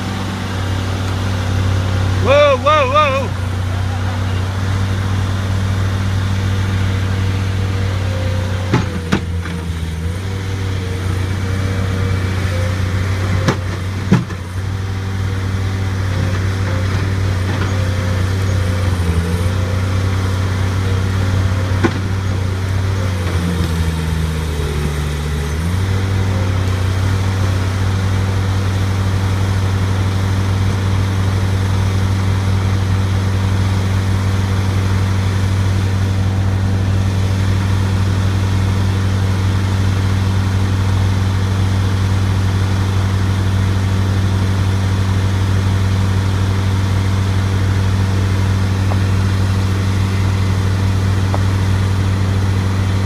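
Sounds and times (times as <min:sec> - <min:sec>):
loader engine running: 0:00.0 - 0:53.0.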